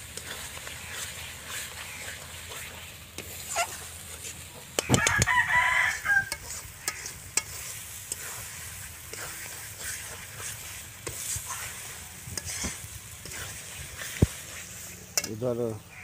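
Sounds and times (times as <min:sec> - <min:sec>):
metal spatula scraping pan: 0:00.0 - 0:15.4
paste sizzling: 0:00.0 - 0:16.0.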